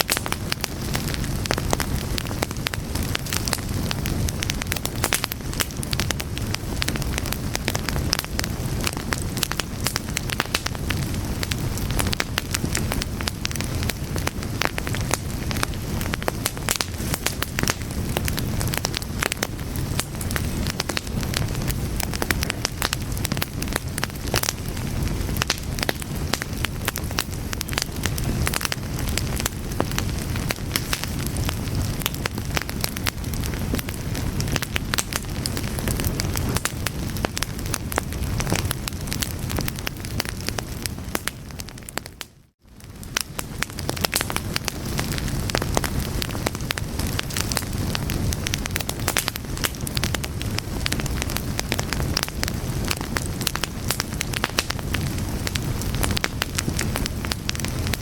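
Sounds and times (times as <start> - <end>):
fire crackling: 0.0 - 58.0
low rumble of flames: 0.0 - 58.0.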